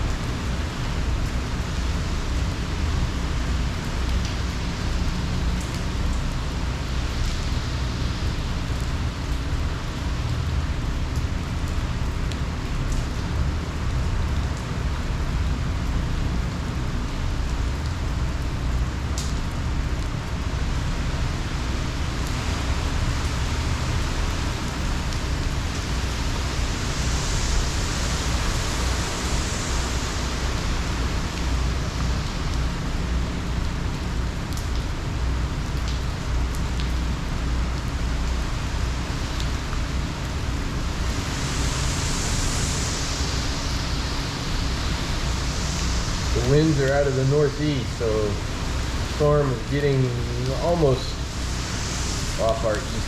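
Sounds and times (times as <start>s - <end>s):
heavy rain falling: 0.0s - 53.0s
wind rumble: 0.0s - 53.0s.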